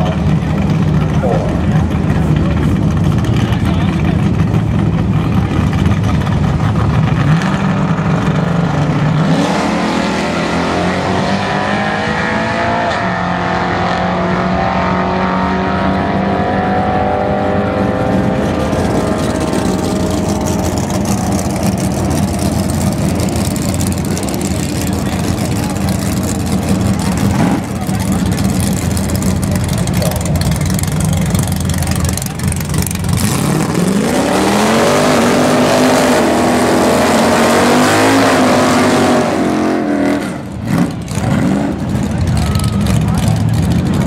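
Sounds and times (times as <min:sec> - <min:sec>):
drag car engine revving: 0:00.0 - 0:44.0.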